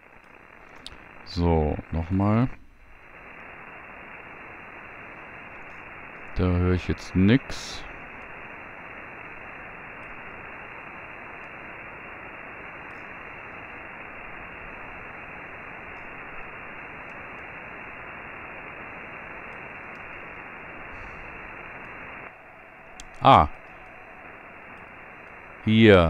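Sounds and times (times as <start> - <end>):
radio receiver hiss: 0.0 - 26.0.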